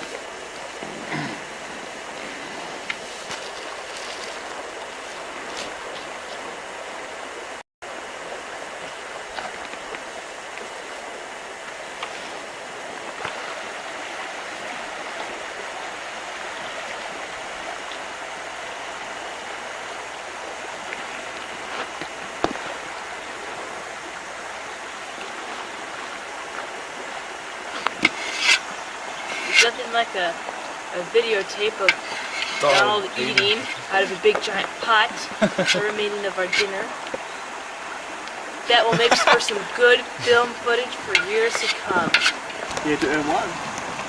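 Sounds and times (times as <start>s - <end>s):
river rapids rushing: 0.0s - 44.0s.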